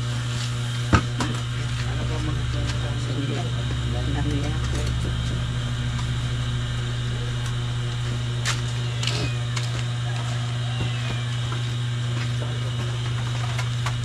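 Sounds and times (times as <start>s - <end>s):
low machine hum: 0.0s - 14.0s
faint voices: 0.7s - 14.0s.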